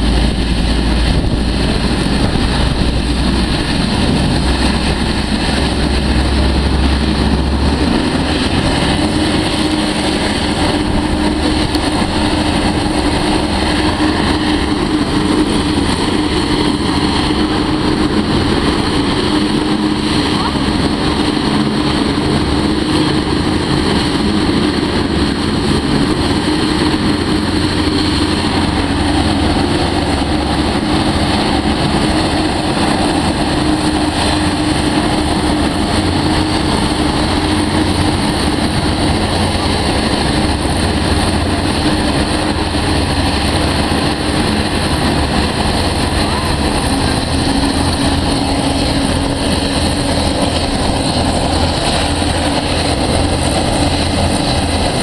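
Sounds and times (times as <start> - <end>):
hovercraft engine drone: 0.0 - 55.0
propeller hum: 0.0 - 55.0.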